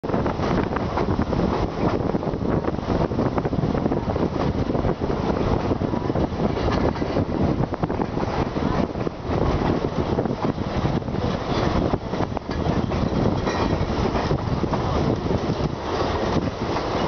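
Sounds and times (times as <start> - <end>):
train rumble: 0.0 - 17.0
wind buffeting microphone: 0.0 - 17.0
wheels knocking: 0.4 - 17.0.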